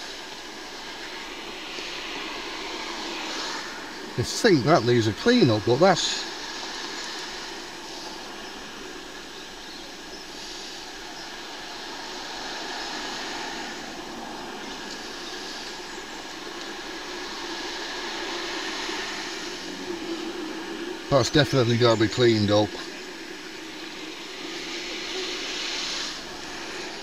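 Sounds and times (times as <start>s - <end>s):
road traffic hiss: 0.0s - 27.0s.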